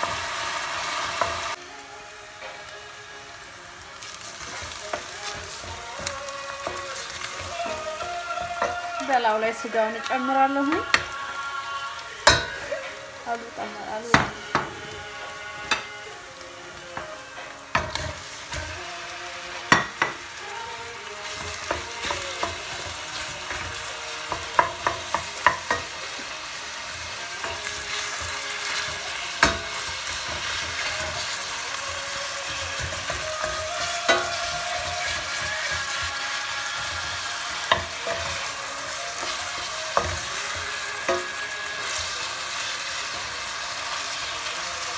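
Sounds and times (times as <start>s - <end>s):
meat and onions sizzling in oil: 0.0s - 44.9s.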